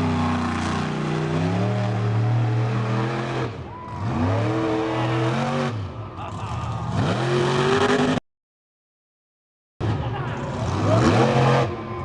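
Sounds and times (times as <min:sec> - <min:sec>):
monster truck engine revving: 0:00.0 - 0:08.2, 0:09.8 - 0:12.0.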